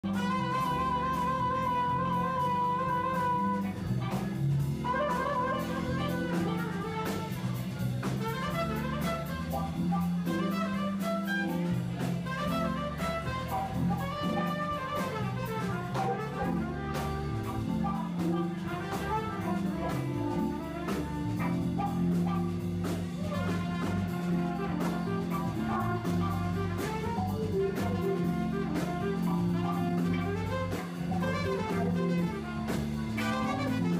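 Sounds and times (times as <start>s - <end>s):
jazz band playing: 0.0s - 33.9s.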